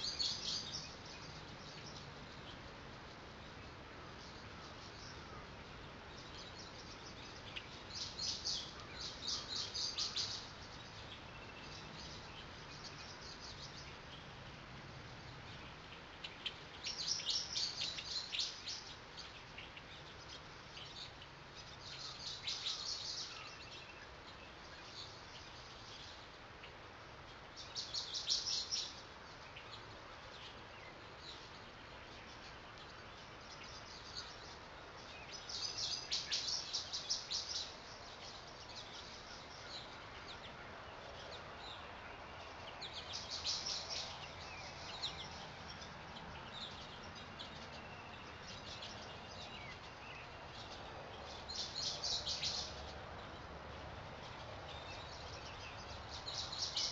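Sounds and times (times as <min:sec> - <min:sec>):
faint outdoor hiss: 0:00.0 - 0:56.9
small birds chirping: 0:00.0 - 0:56.9.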